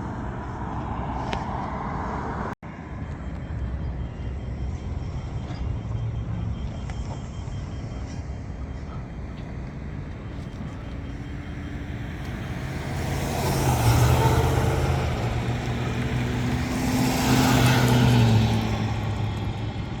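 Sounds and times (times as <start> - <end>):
background traffic: 0.0 - 20.0
vehicles passing: 0.0 - 20.0.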